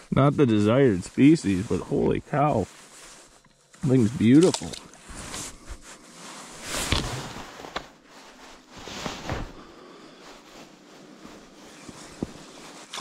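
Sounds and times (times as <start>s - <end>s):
clothing and gear rustling: 0.0s - 13.0s.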